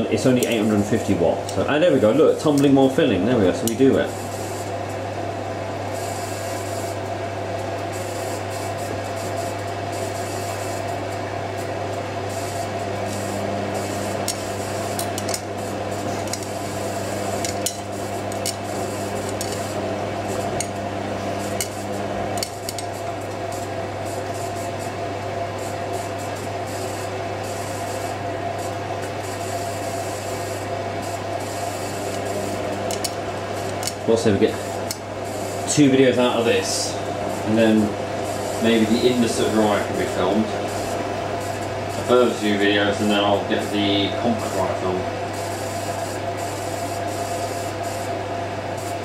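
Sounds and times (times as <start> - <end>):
washing machine motor hum: 0.0 - 49.0.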